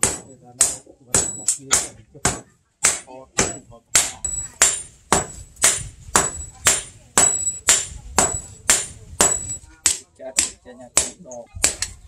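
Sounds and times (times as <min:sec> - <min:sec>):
hammer clanging on anvil: 0:00.0 - 0:01.9, 0:02.9 - 0:11.9.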